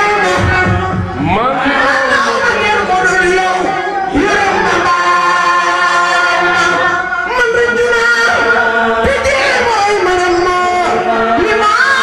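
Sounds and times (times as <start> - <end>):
choir singing unaccompanied: 0.0 - 12.0.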